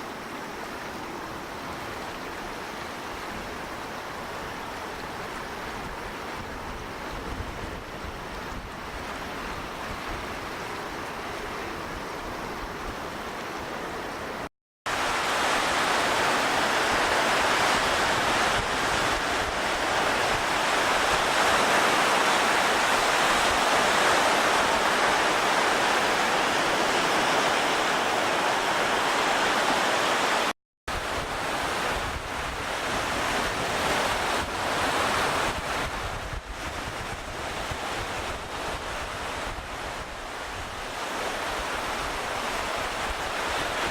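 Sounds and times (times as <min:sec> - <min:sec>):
waves: 0:00.0 - 0:43.9.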